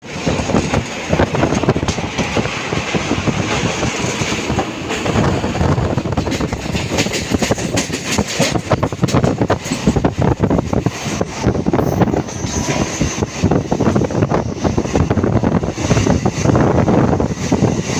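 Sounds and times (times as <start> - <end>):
train wheels clattering on rails: 0.0 - 17.9.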